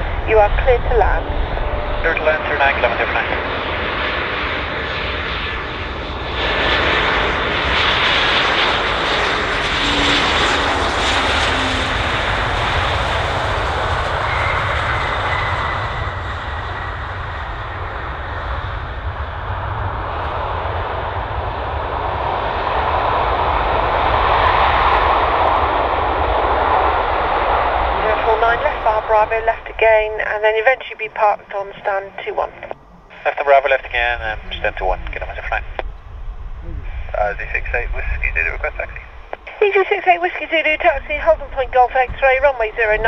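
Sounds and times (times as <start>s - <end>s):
jet airliner engine noise: 0.0s - 43.0s.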